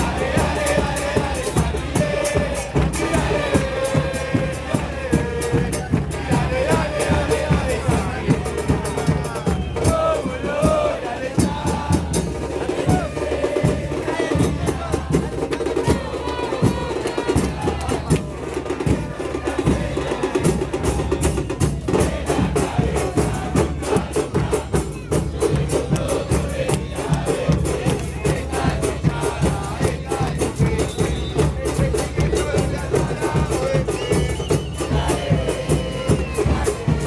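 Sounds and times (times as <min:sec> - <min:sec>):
drums and percussion beating: 0:00.0 - 0:37.0
voices singing along: 0:00.0 - 0:37.0.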